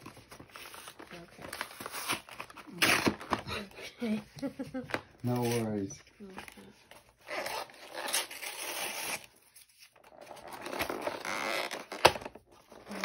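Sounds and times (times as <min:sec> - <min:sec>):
packaging scraping and tearing: 0:00.0 - 0:03.5, 0:05.2 - 0:13.0.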